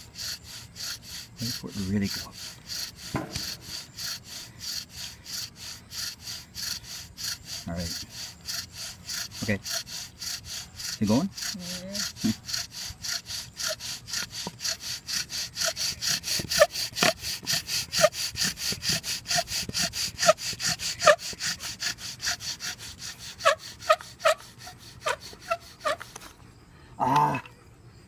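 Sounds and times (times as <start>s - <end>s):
bow drill rasping: 0.0s - 26.4s
wooden squeaks: 0.0s - 26.4s.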